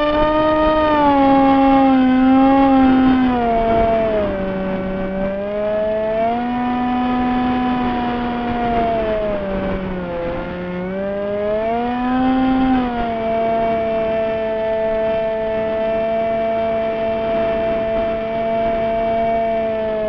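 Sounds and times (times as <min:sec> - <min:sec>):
model airplane motor humming: 0:00.0 - 0:20.0.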